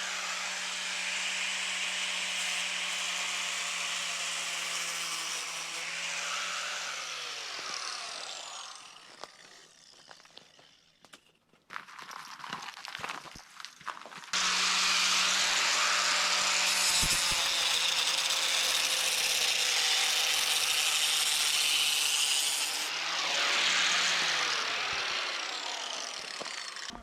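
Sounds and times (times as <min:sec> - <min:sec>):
power saw cutting wood: 0:00.0 - 0:11.0, 0:14.3 - 0:27.0.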